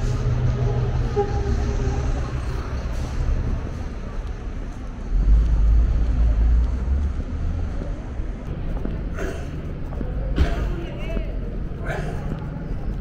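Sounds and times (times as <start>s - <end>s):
city street traffic: 0.0s - 13.0s
deep low rumble: 0.0s - 13.0s.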